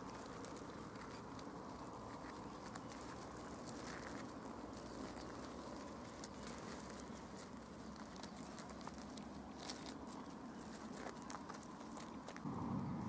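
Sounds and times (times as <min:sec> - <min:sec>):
small clicks and crackles: 0:00.0 - 0:12.5
faint outdoor background: 0:00.0 - 0:13.0.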